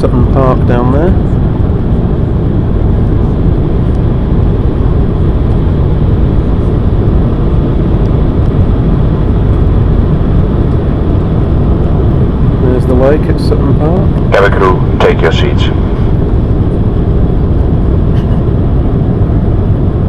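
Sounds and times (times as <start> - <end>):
jet engine and airflow in cabin: 0.0 - 20.0.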